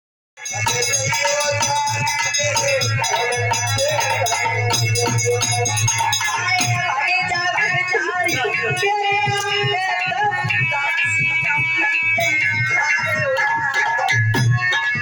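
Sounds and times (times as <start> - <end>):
instrumental music with fast beat: 0.4 - 15.0.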